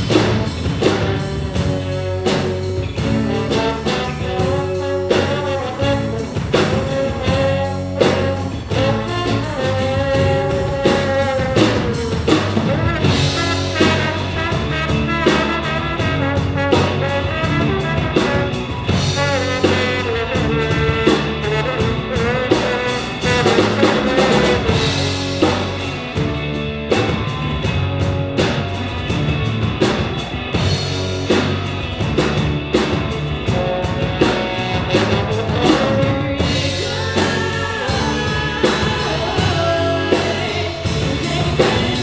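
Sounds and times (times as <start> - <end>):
drum kit beat: 0.0 - 42.0
wavering lead melody: 0.0 - 42.0.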